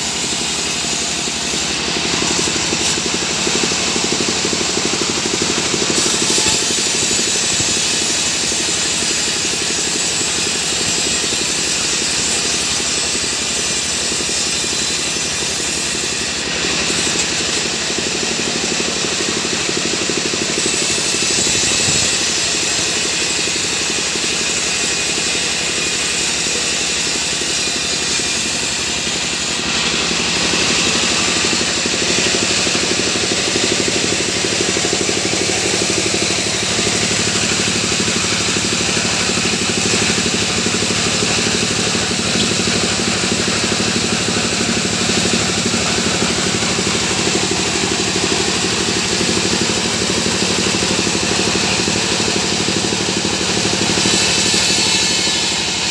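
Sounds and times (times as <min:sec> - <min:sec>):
sawmill machine droning: 0:00.0 - 0:55.9.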